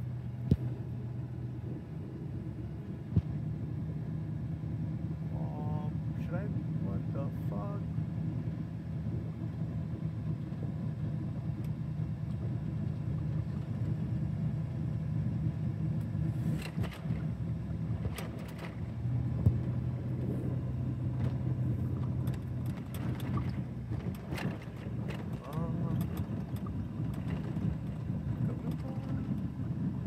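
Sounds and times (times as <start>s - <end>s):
engine and road hum: 0.0s - 30.0s.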